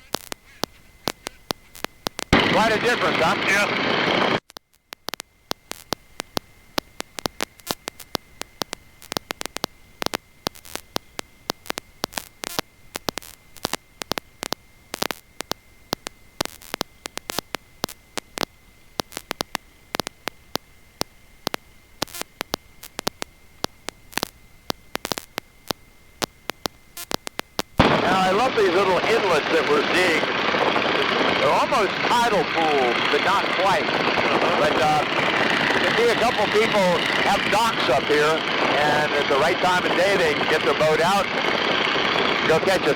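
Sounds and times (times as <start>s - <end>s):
high-pitched electrical whine: 0.0s - 42.9s
static crackling clicks: 0.0s - 42.9s.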